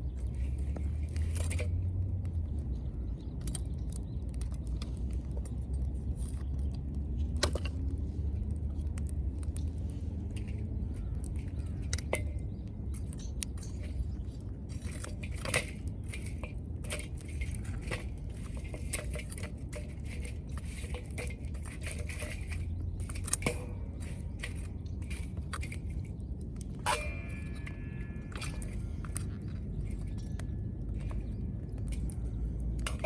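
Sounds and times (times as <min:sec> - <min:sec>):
steady low rumble: 0:00.0 - 0:33.0
wood fire crackling: 0:00.0 - 0:33.0.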